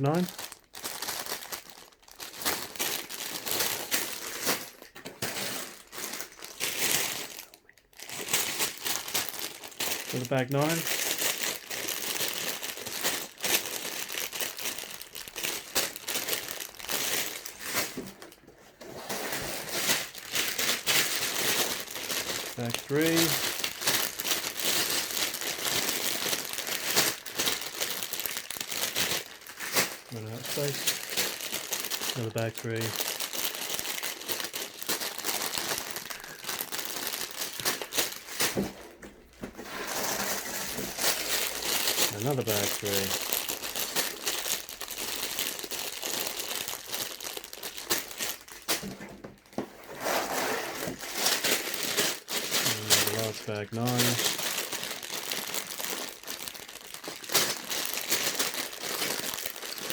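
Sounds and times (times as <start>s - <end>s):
plastic bags crinkling: 0.0s - 59.9s.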